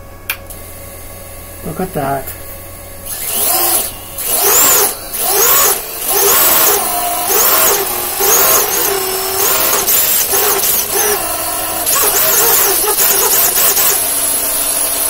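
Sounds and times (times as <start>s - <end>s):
electric motors whining: 2.7s - 15.0s.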